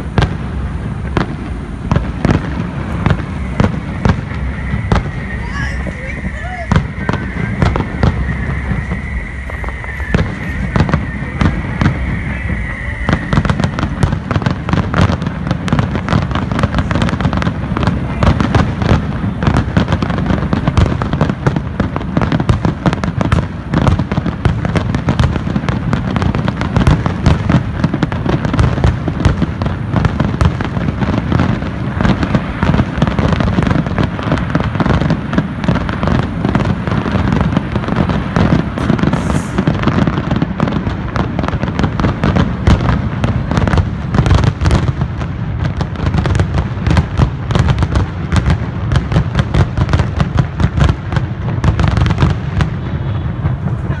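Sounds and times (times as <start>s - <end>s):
fireworks booms and crackles: 0.0s - 54.0s.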